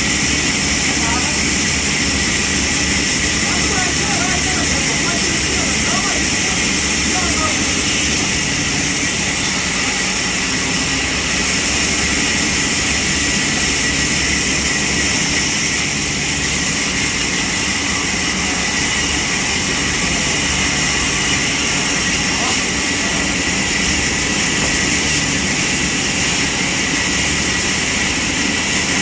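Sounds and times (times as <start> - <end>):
low machine hum: 0.0 - 29.0
sawmill machinery running: 0.0 - 29.0.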